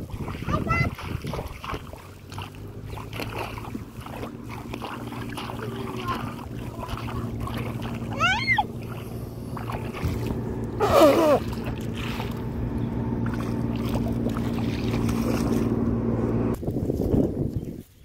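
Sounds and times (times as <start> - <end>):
low motor hum: 0.0 - 17.9.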